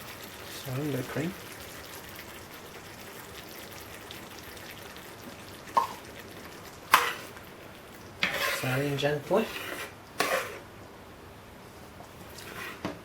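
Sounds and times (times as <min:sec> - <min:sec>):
sauce sizzling in a pan: 0:00.0 - 0:10.7.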